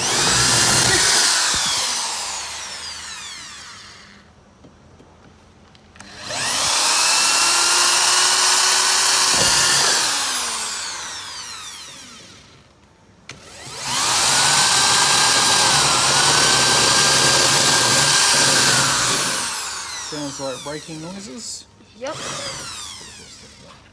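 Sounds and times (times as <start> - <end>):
electric drill squealing: 0.0 - 4.2, 6.1 - 12.5, 13.6 - 23.9.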